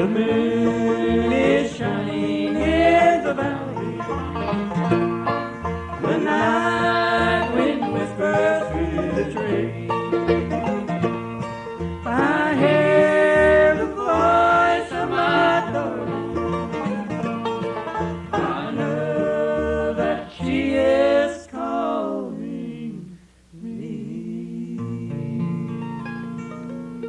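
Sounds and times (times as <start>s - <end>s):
voices singing in harmony: 0.0s - 4.7s, 5.9s - 10.9s, 12.0s - 17.1s, 18.2s - 27.0s
bluegrass band playing: 0.0s - 27.0s.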